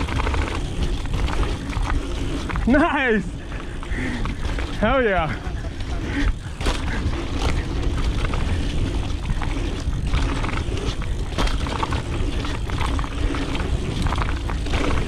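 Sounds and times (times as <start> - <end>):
bike knocking and rattling: 0.0 - 15.0
bike tyre rumble: 0.0 - 15.0.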